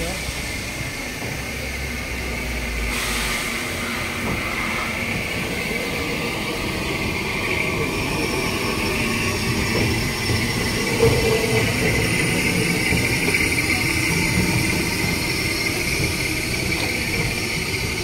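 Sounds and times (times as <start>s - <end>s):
steam locomotive hissing: 0.0s - 18.0s.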